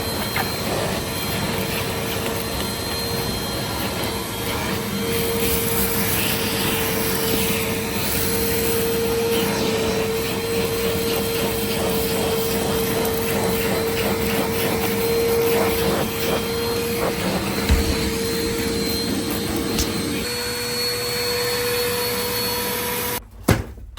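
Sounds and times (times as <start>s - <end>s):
vacuum cleaner running: 0.0s - 23.2s.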